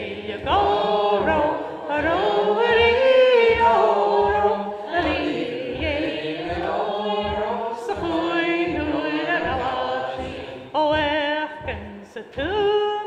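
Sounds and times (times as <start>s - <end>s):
group singing in chorus: 0.0s - 12.6s.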